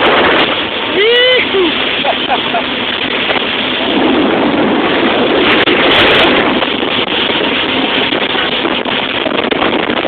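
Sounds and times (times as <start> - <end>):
water noise: 0.0 - 10.0
wind buffeting microphone: 0.0 - 10.0.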